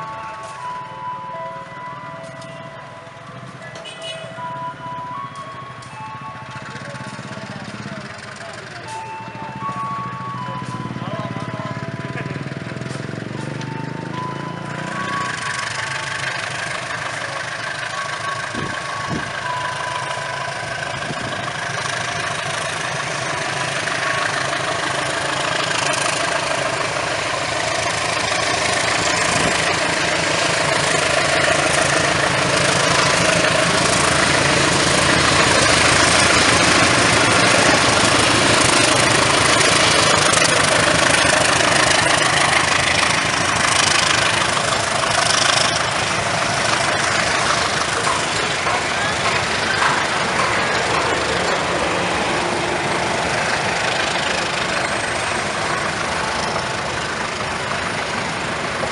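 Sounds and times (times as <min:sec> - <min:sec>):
locomotive engine running: 0:00.0 - 0:58.9.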